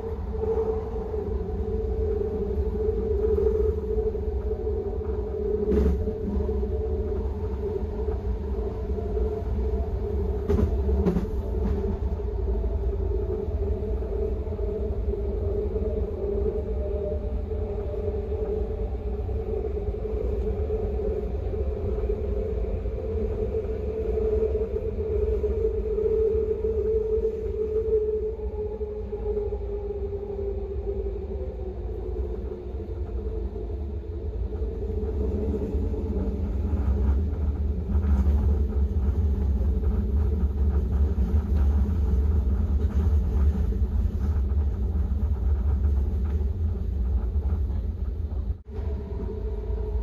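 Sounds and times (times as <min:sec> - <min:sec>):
train rumbling along track: 0:00.0 - 0:50.0.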